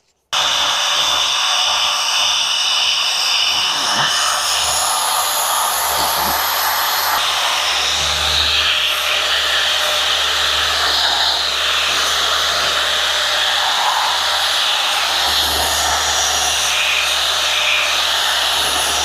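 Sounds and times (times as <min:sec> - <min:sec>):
orbital sander on metal: 0:00.4 - 0:19.0.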